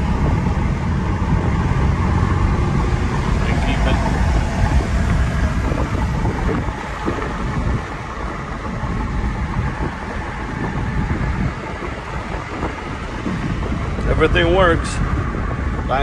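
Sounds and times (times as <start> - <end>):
tyre and wind noise in car cabin: 0.0 - 16.0.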